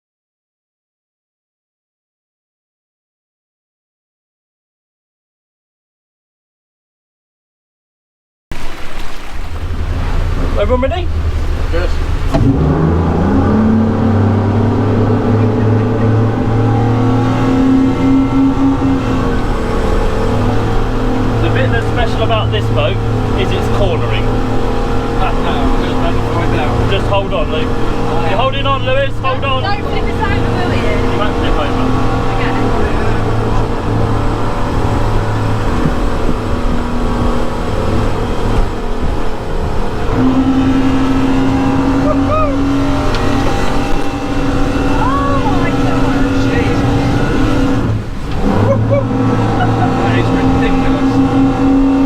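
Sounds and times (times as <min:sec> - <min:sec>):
rush of wind and water: 0:08.5 - 0:52.0
outboard motors running hard: 0:08.6 - 0:52.0.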